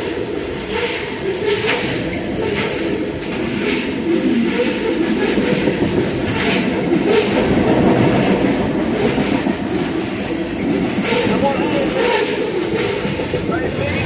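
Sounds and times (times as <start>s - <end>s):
train wheels rumbling on rail: 0.0s - 14.0s
wheels clacking over rail joints: 0.0s - 14.0s.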